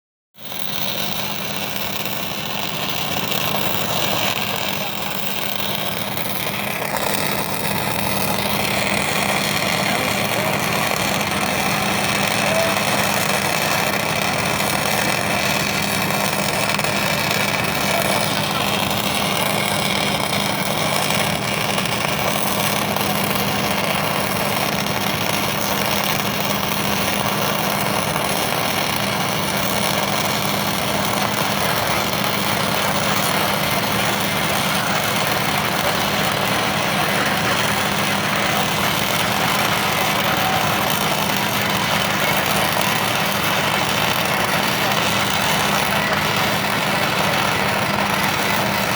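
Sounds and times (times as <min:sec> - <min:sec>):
welding arc crackling hiss: 0:00.4 - 0:48.9.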